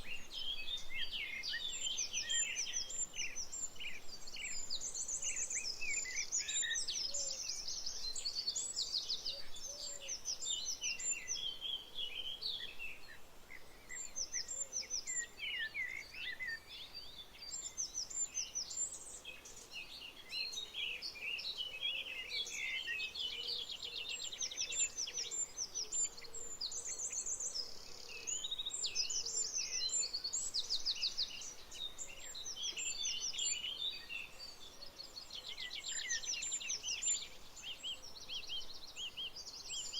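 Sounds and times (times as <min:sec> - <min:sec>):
chorus of songbirds singing: 0:00.0 - 0:39.9.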